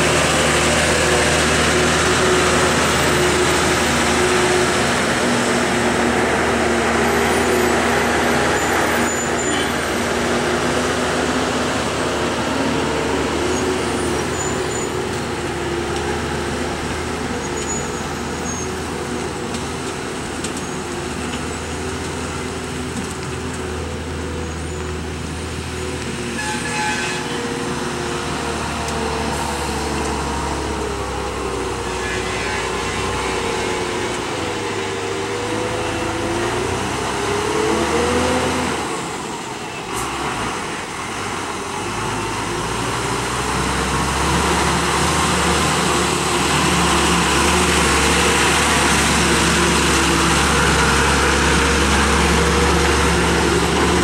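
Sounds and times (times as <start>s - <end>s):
diesel truck engine under load: 0.0s - 26.4s, 27.3s - 54.0s.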